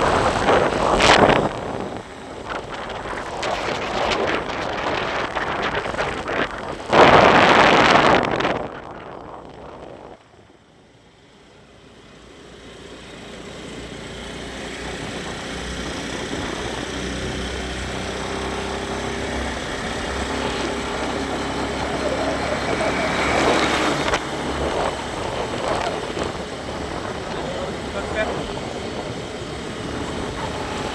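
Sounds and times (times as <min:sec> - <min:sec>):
road noise: 0:00.0 - 0:30.9
vehicle engine: 0:00.0 - 0:30.9.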